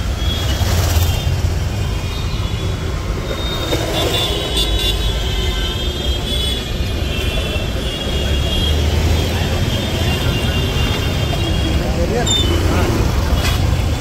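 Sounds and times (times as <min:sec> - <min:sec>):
motorbike and car traffic rumble: 0:00.0 - 0:14.0.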